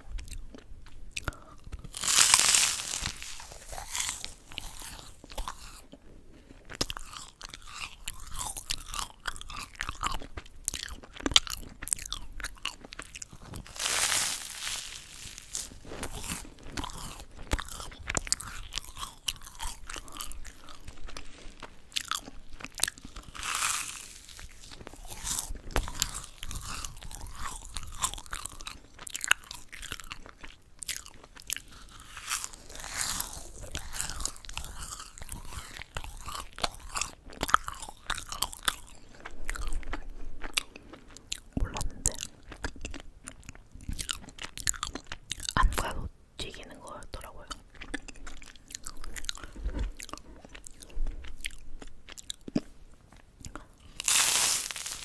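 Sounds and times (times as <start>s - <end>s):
chewing crisp cookies: 0.0s - 55.0s
crisp crunches: 1.2s - 43.0s, 47.8s - 55.0s.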